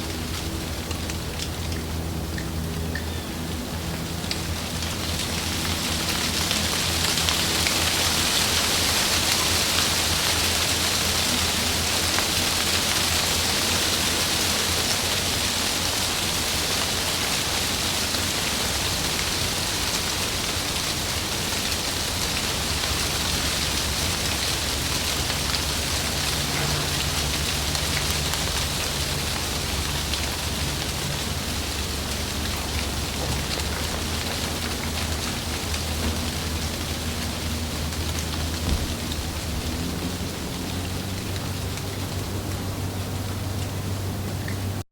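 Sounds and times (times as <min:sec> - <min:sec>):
heavy rain pattering on leaves: 0:00.0 - 0:44.8
low rumble of wind: 0:00.0 - 0:44.8.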